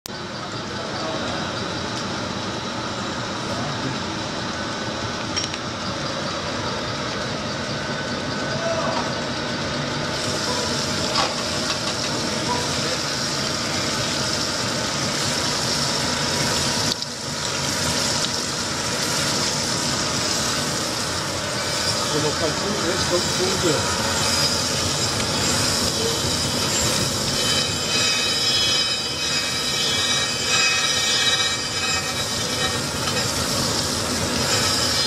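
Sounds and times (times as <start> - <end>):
grinding machine hum: 0.1 - 35.0
grinding wheel hiss: 2.9 - 35.0.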